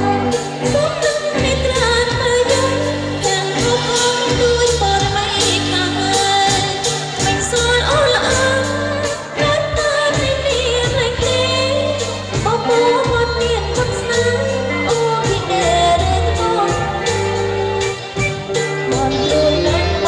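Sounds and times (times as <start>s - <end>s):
pop band playing: 0.0s - 20.0s
woman singing into a microphone: 0.0s - 20.0s.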